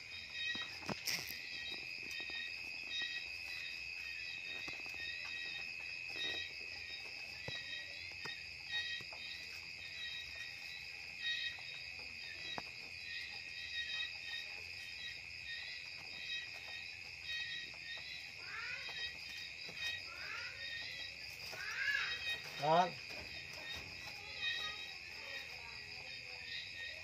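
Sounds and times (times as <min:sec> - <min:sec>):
high insect chorus: 0:00.0 - 0:27.0.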